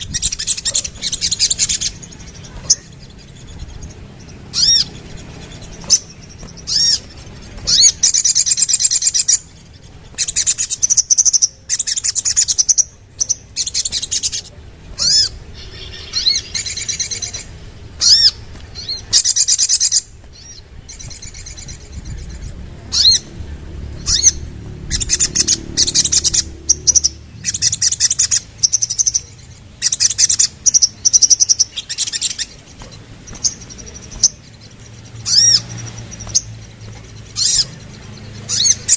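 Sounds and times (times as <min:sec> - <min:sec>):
bird chattering trills: 0:00.0 - 0:38.9
bird sharp chips: 0:00.0 - 0:38.9.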